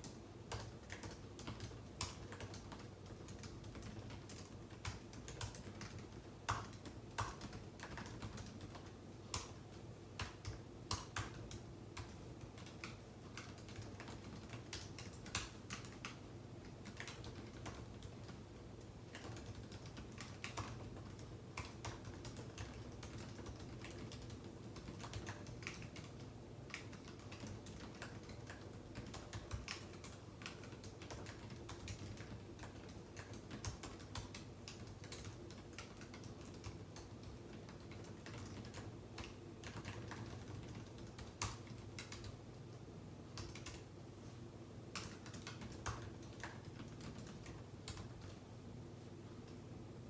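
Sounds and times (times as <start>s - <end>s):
keyboard typing: 0.0s - 42.6s, 43.3s - 43.9s, 44.9s - 48.4s
low steady hum: 0.0s - 50.0s.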